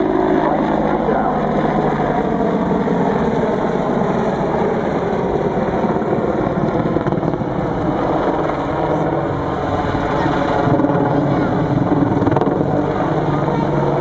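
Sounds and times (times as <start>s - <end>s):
helicopter engines running: 0.0s - 14.0s
helicopter rotor blade chop: 0.0s - 14.0s.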